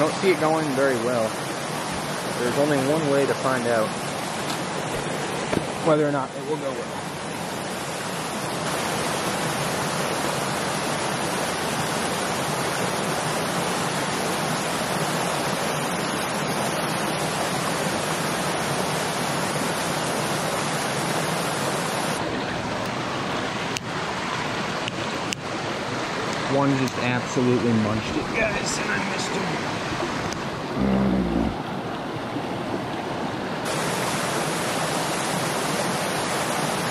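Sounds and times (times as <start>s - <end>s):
creek water rushing over rocks: 0.0s - 36.9s.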